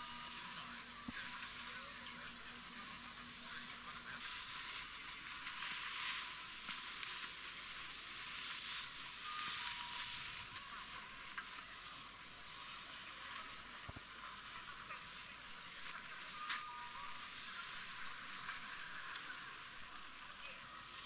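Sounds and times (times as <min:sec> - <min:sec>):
skis sliding over packed snow: 0:00.0 - 0:21.0.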